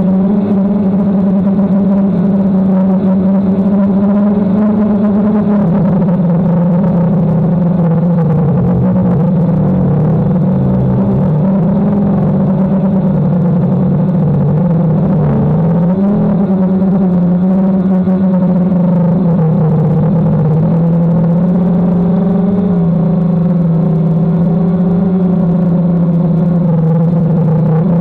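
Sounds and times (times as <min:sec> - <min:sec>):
drone propellers whirring: 0:00.0 - 0:28.0.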